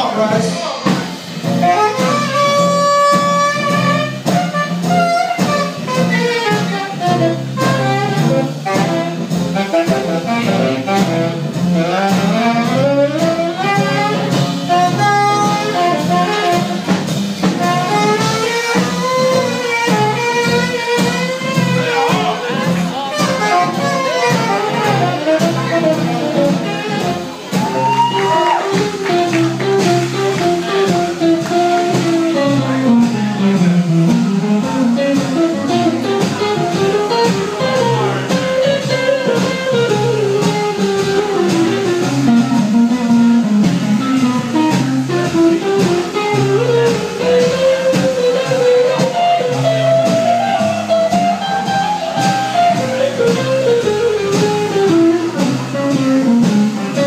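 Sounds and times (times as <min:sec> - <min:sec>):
jazz band playing: 0:00.0 - 0:57.0.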